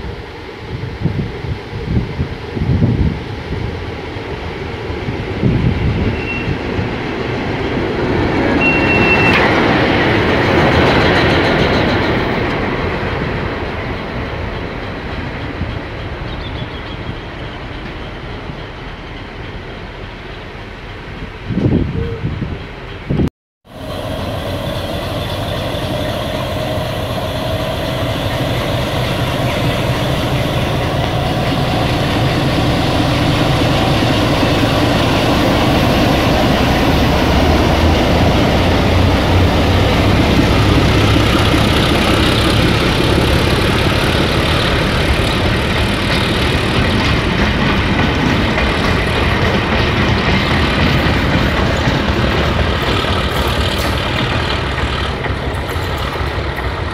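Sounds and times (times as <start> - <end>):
diesel locomotive engine: 0.0 - 56.9
train wheels rumbling on rails: 0.0 - 56.9.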